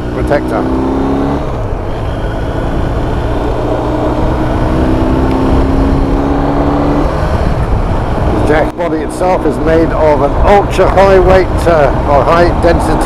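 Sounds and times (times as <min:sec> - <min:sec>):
motorcycle engine running: 0:00.0 - 0:13.0
wind buffeting microphone: 0:01.3 - 0:13.0.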